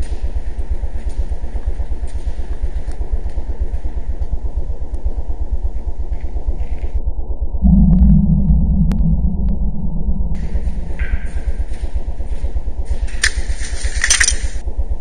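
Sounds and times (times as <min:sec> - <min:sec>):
low mechanical rumble with flutter: 0:00.0 - 0:15.0.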